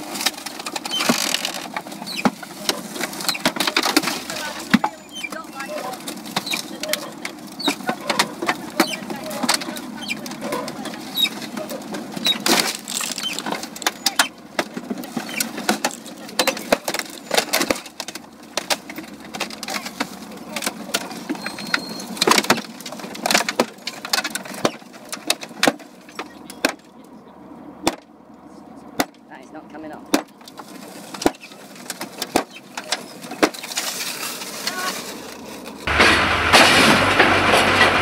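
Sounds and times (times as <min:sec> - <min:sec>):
car body being crushed: 0:00.0 - 0:26.9, 0:30.1 - 0:38.0
tracked vehicle engine running: 0:00.0 - 0:38.0.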